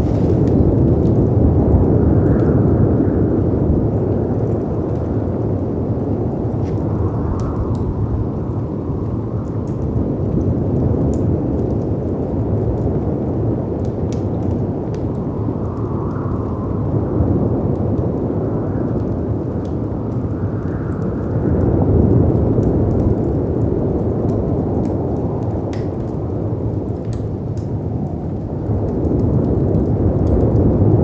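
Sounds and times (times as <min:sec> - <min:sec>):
wind: 0:00.0 - 0:31.0
wood fire crackling: 0:00.0 - 0:31.0.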